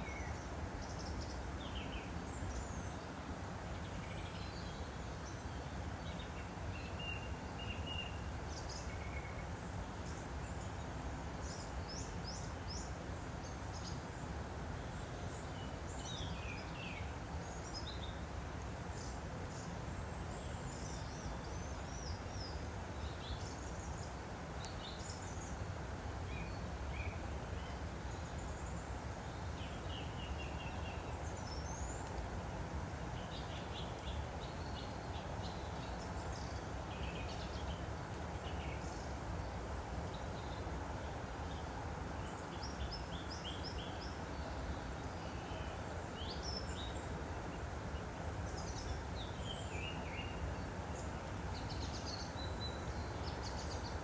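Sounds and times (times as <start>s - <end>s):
small birds chirping: 0.0s - 54.0s
woodland stream flowing: 0.0s - 54.0s.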